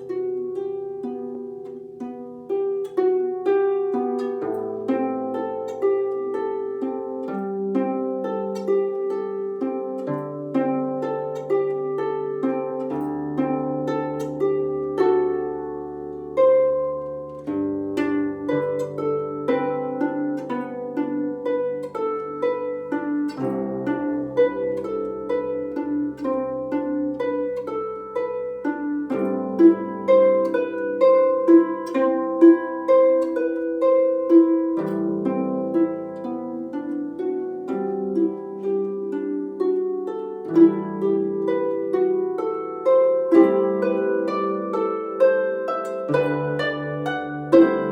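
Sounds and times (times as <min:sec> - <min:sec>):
solo harp playing: 0:00.0 - 0:47.9.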